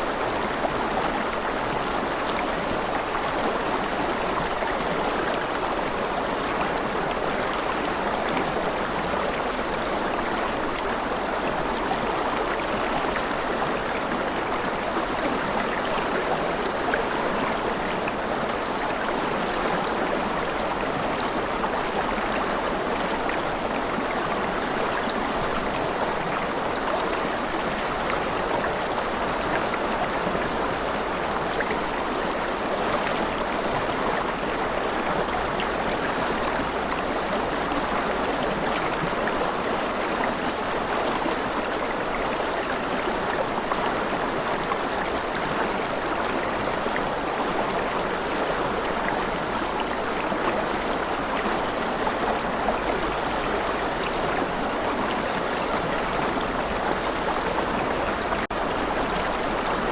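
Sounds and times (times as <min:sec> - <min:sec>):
rushing river: 0:00.0 - 0:59.9.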